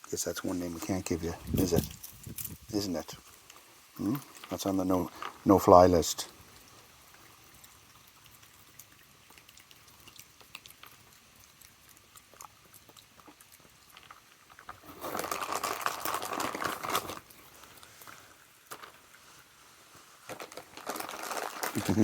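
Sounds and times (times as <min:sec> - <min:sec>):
raccoon chewing peanuts: 0:00.4 - 0:22.0.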